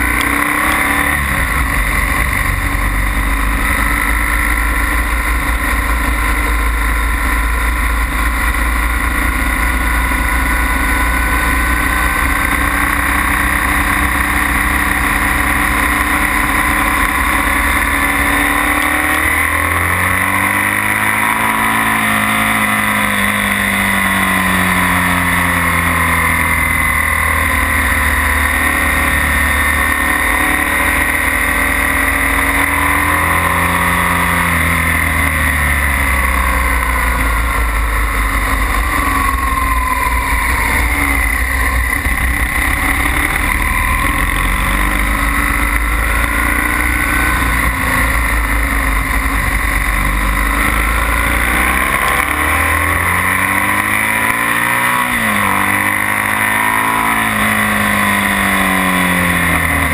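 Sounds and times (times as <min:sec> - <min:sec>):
motorcycle engine running hard: 0:00.0 - 0:59.9
steady rushing noise: 0:00.0 - 0:59.9.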